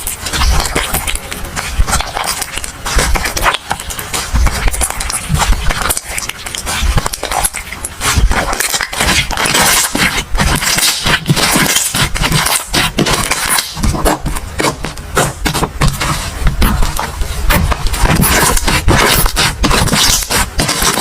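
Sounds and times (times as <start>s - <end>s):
hands squeezing slime: 0.0s - 21.0s.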